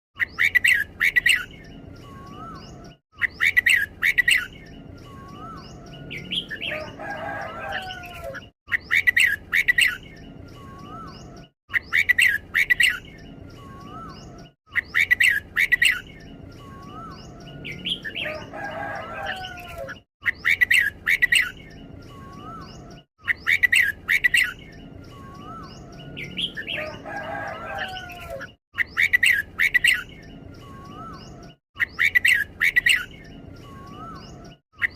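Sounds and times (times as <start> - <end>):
bird song bursts: 0.2 - 34.9
bird twittering: 0.2 - 34.9.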